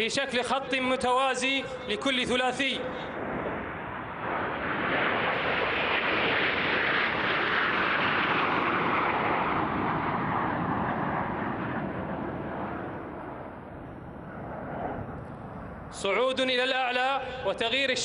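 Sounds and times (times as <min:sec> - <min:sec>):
jet aircraft flying past: 0:02.7 - 0:17.7.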